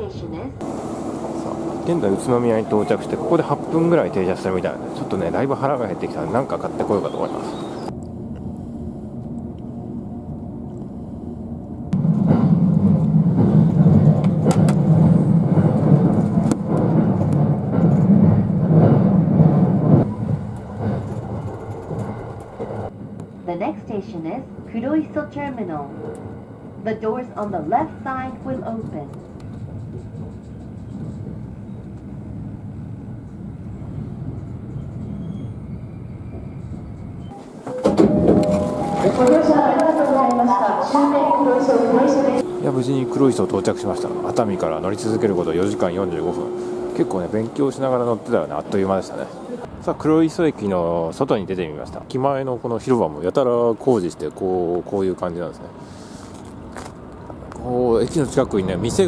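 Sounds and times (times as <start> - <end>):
train running at speed: 0.0 - 59.0.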